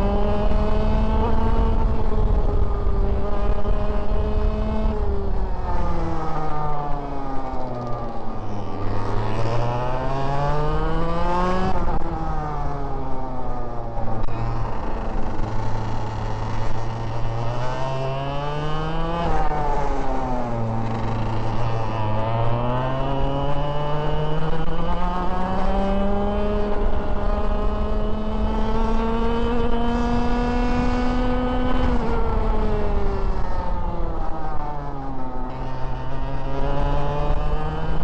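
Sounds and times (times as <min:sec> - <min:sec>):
kart engine revving: 0:00.0 - 0:13.0, 0:14.1 - 0:38.0.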